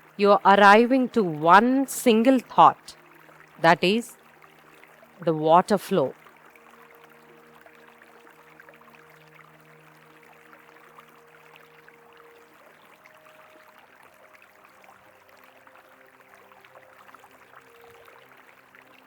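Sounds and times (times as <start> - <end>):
flowing river water: 0.0 - 19.0
soft sustained background music: 0.0 - 19.0.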